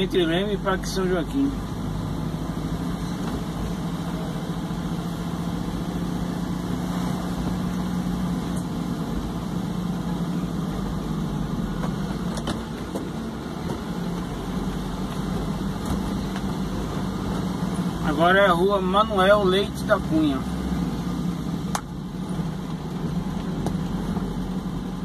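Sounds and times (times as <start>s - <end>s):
car engine hum: 0.0s - 25.0s
road noise rumble: 0.0s - 25.0s.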